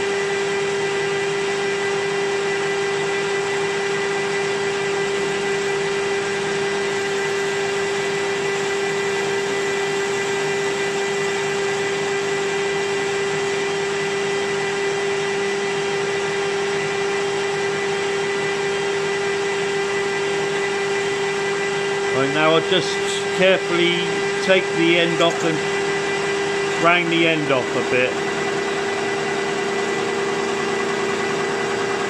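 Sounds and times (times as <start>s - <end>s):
metal lathe humming and whining: 0.0s - 32.0s.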